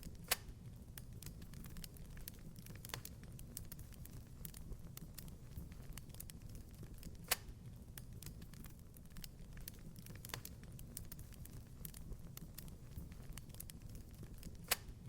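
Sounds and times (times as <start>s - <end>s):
low steady fire rumble: 0.0s - 15.0s
wood fire crackling: 0.0s - 15.0s.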